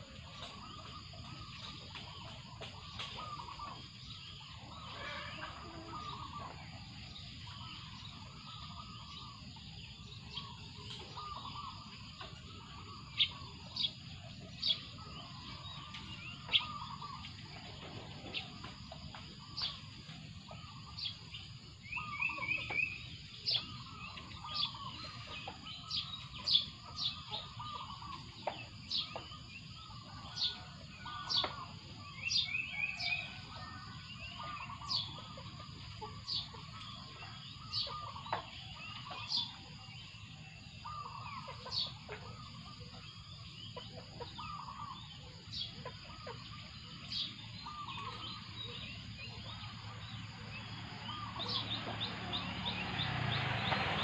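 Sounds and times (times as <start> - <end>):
insect drone: 0.0 - 54.0
lower fuller bird calls: 0.0 - 54.0.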